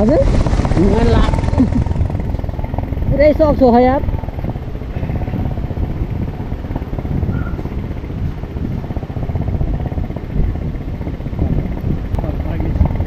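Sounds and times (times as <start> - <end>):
low rumble of wind and road: 0.0 - 13.0
motorcycle engine running: 0.0 - 13.0.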